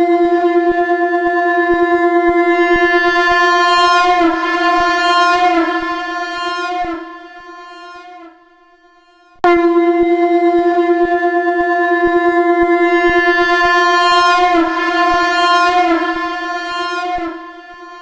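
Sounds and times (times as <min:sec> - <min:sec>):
conch shell long note: 0:00.1 - 0:18.0.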